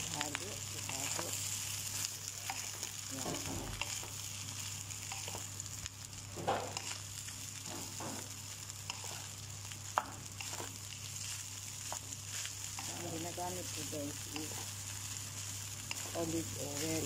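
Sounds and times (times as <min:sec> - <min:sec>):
rice sizzling in a hot pan: 0:00.0 - 0:17.0.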